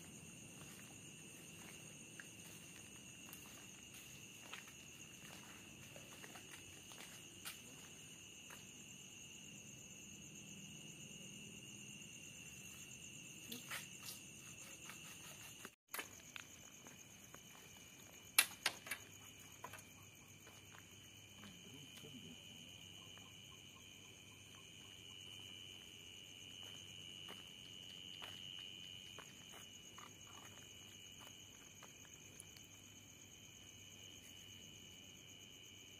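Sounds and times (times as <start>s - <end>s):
crickets trilling: 0.0s - 35.9s.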